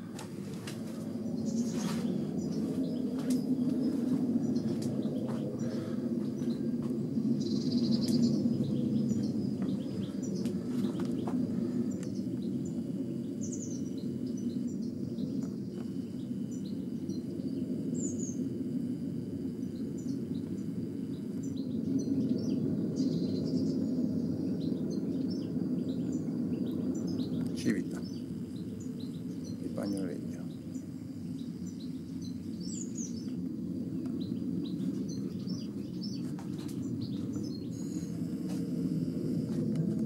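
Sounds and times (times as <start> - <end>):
low outdoor rumble: 0.0 - 40.0
small birds chirping: 0.0 - 40.0.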